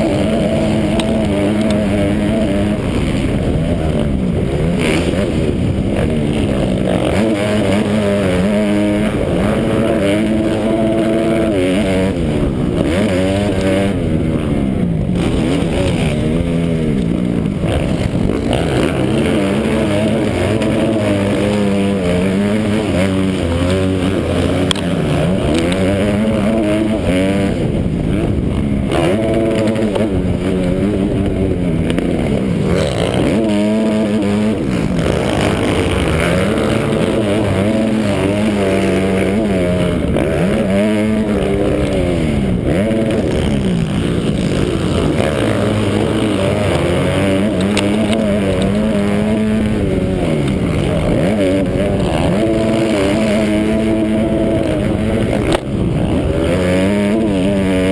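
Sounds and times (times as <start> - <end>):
motocross bike engine revving: 0.0 - 57.9.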